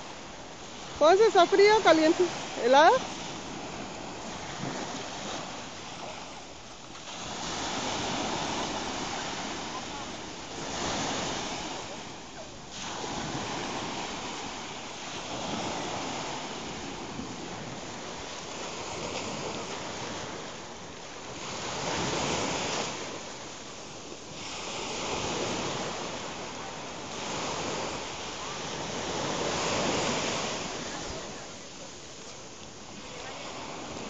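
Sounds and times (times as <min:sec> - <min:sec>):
small waves breaking on sand: 0:00.0 - 0:34.0.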